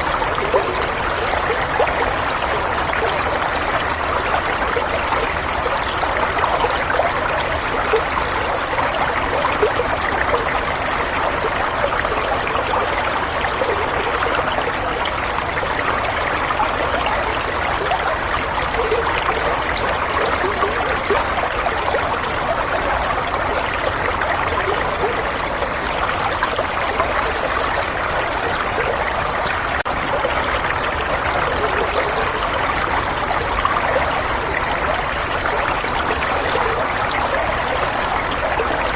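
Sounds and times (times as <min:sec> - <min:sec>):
water flowing steadily: 0:00.0 - 0:38.9.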